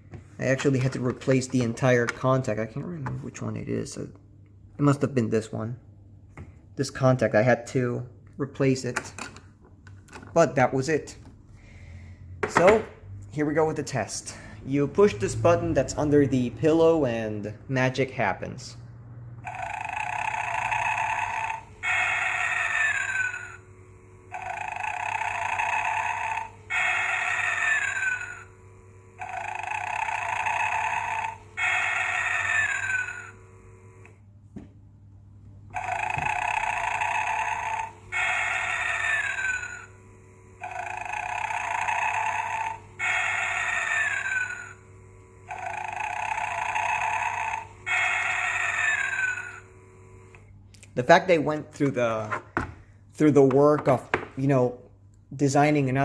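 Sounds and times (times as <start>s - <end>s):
faint motor hum: 0.0s - 56.0s.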